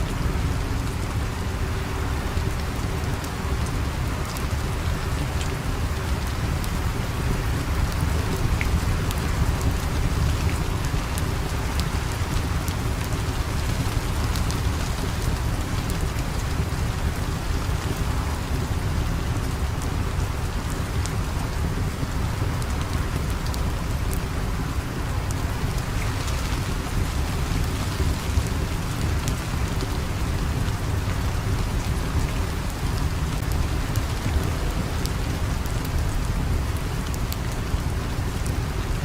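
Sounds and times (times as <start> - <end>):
deep constant rumble: 0.0 - 39.0
steady rain: 0.0 - 39.0.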